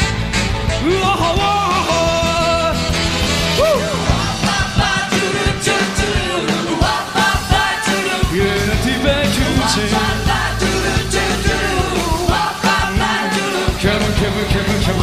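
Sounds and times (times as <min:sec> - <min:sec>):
rock and roll band playing: 0:00.0 - 0:15.0.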